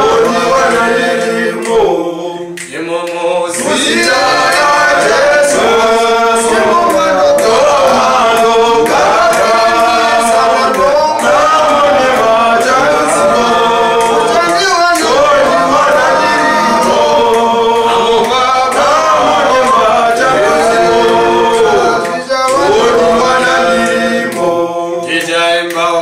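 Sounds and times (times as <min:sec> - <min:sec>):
male choir singing a cappella: 0:00.0 - 0:26.0.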